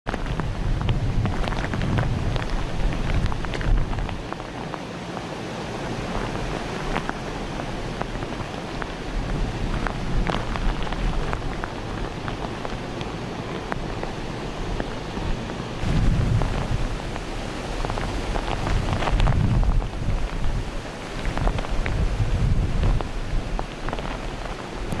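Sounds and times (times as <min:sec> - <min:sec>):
rain falling steadily: 0:00.1 - 0:25.0
wind rumbling on microphone: 0:00.1 - 0:25.0.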